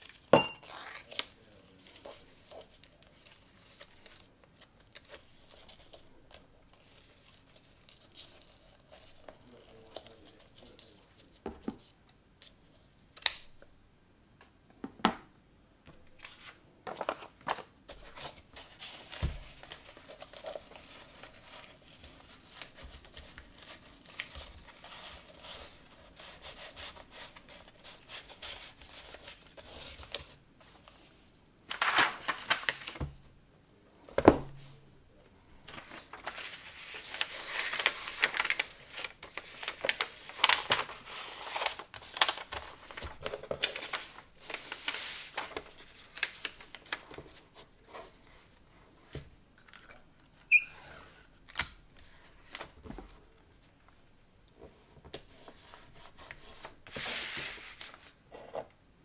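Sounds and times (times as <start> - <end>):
paper rustling and crinkling: 0.0 - 12.6, 16.1 - 33.3, 34.1 - 50.0, 51.5 - 53.9, 54.6 - 58.5.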